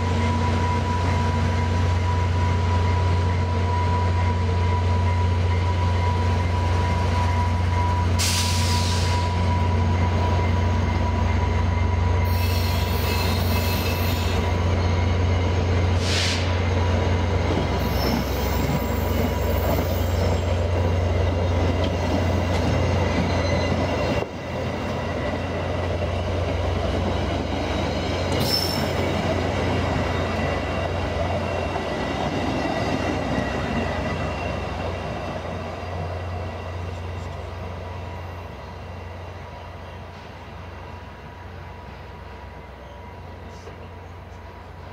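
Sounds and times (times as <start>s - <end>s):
diesel locomotive droning: 0.0s - 44.9s
train wheels squealing on rails: 0.0s - 44.9s.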